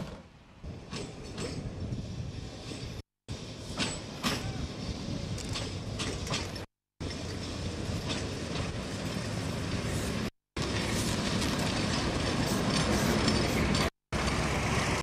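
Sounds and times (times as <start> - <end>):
wheels clacking over rails: 0.0 - 3.0, 3.6 - 15.0
tram rumbling on track: 0.0 - 15.0.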